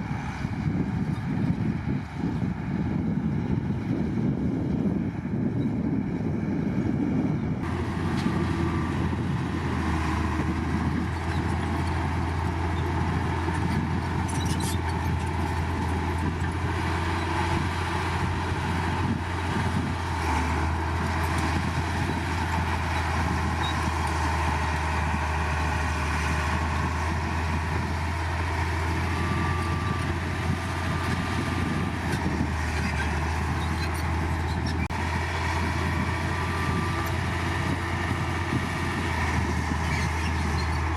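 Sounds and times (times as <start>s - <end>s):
heavy diesel machinery running: 0.0s - 40.9s.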